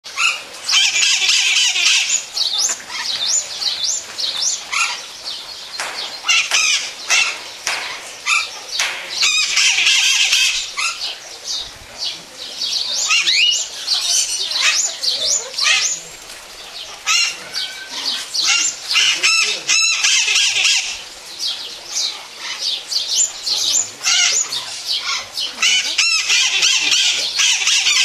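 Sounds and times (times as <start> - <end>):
parrots squawking and chirping: 0.1 - 21.1, 21.9 - 28.0.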